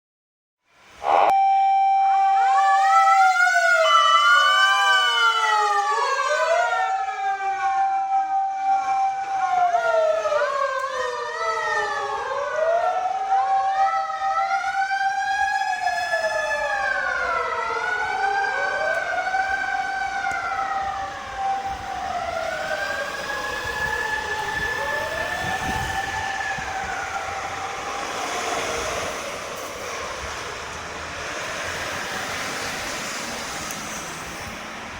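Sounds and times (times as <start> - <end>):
fire vehicle sirens wailing: 0.8 - 34.9.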